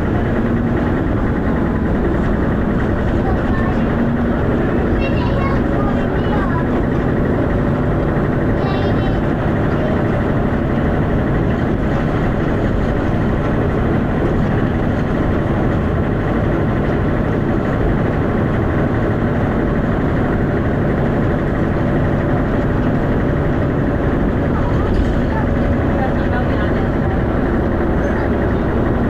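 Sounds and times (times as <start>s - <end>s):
bus diesel engine running: 0.0s - 29.0s
road noise: 0.0s - 29.0s.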